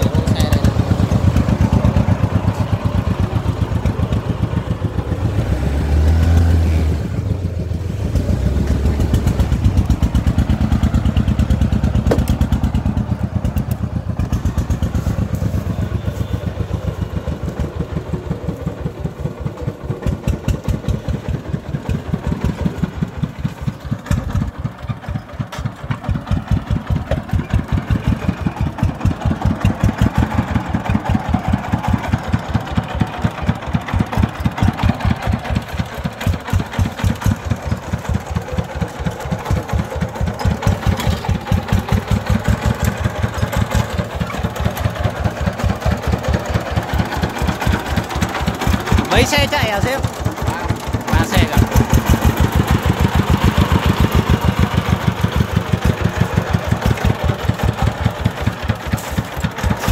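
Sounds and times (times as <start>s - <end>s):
diesel truck engine chugging: 0.0s - 59.9s.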